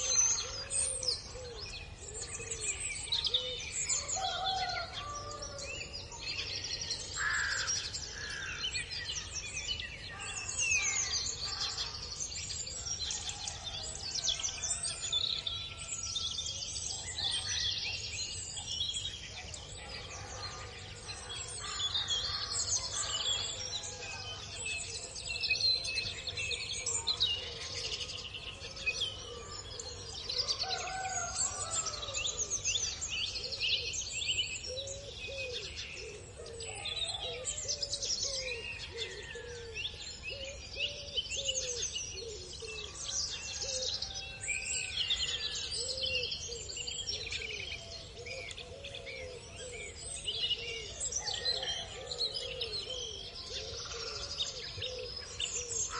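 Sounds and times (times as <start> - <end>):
small birds chirping and singing: 0.0 - 55.9.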